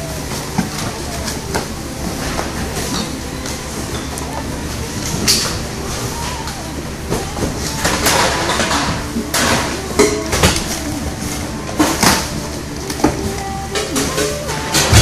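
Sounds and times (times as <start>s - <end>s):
cardboard and plastic wrap rustling: 0.0s - 15.0s
steady low hum: 0.0s - 15.0s.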